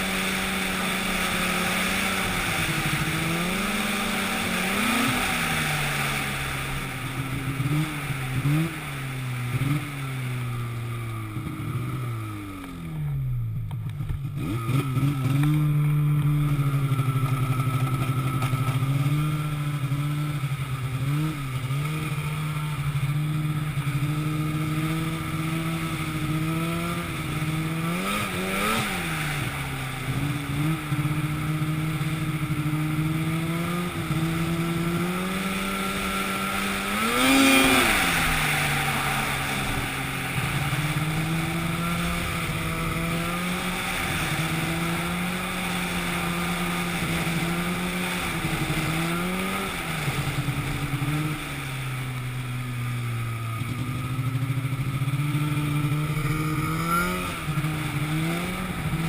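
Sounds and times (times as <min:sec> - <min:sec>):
engine running under changing load: 0:00.0 - 0:59.0.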